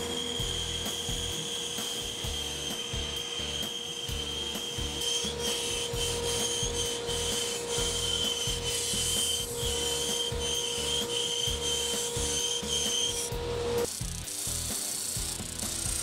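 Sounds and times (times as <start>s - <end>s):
bandsaw cutting wood: 0.0s - 16.0s.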